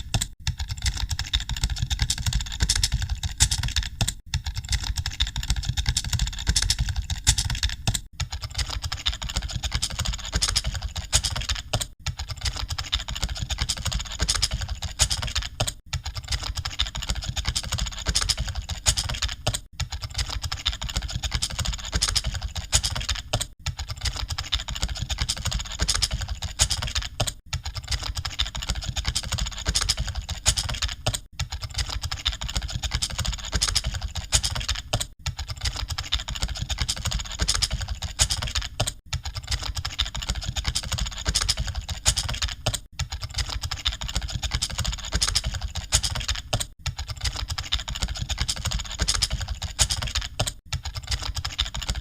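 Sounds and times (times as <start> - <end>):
fast typing on keyboards: 0.0 - 52.0.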